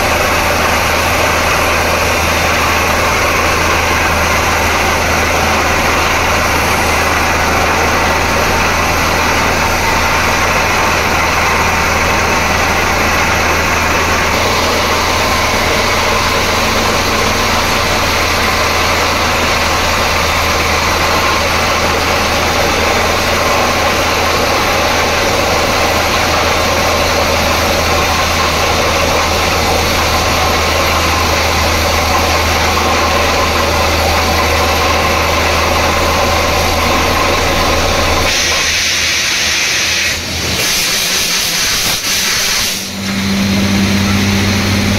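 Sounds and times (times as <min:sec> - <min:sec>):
drilling rig running: 0:00.0 - 0:44.9.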